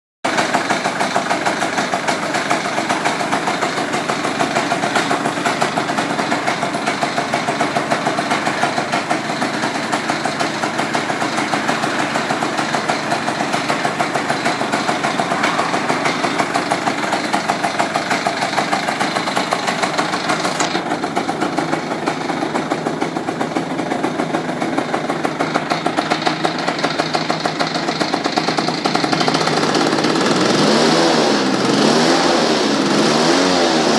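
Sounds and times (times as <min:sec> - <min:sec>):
scooter engine idling: 0:00.3 - 0:32.0.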